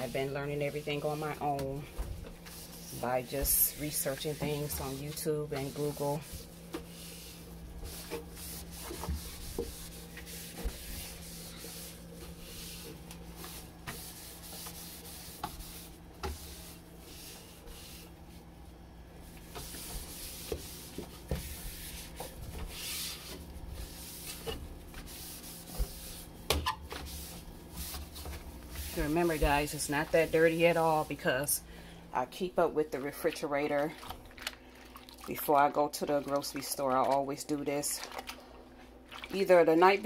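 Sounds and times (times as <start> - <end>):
steady low hum: 0.0 - 35.0
scrubbing inside refrigerator: 0.0 - 40.0.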